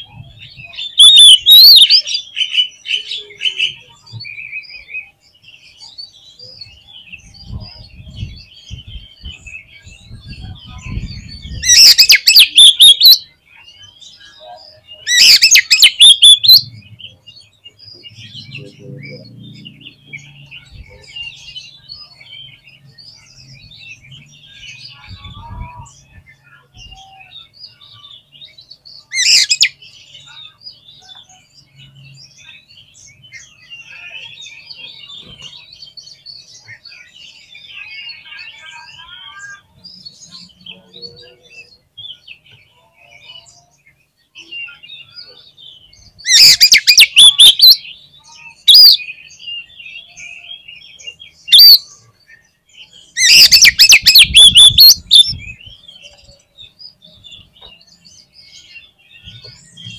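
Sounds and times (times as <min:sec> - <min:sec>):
bird song chirps and whistles: 0:00.0 - 0:59.9
harsh bird calls: 0:00.0 - 0:59.9.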